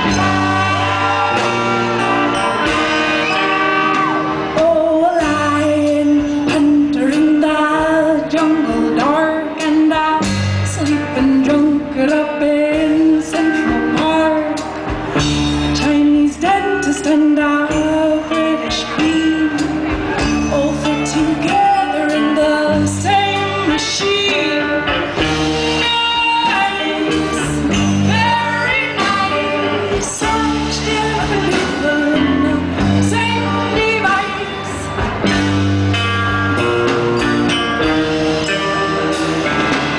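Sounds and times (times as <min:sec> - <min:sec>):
woman singing into microphone: 0:00.0 - 0:14.9, 0:15.7 - 0:35.1
bass line: 0:00.0 - 0:39.9.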